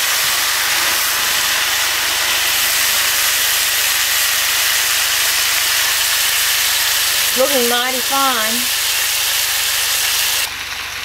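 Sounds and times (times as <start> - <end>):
fat sizzling on hot stove: 0.0 - 11.0.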